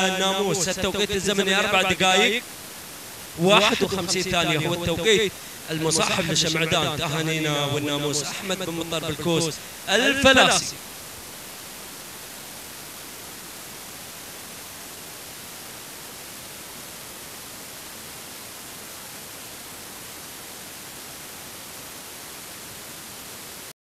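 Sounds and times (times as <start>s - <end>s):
static hiss: 0.0s - 23.7s.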